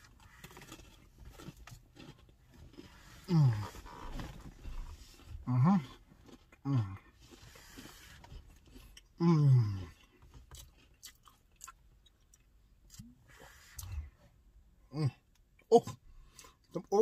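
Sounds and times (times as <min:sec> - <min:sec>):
man chewing crunchy cookie: 0:00.0 - 0:14.2.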